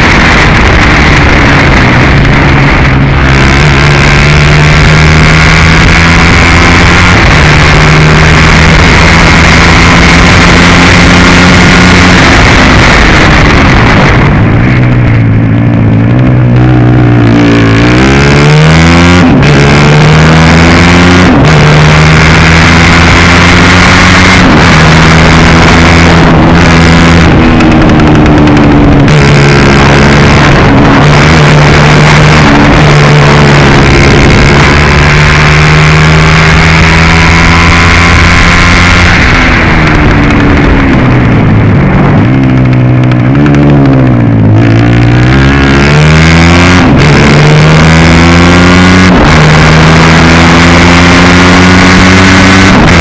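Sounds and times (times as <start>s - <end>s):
kart engine at high revs: 0.0s - 53.0s.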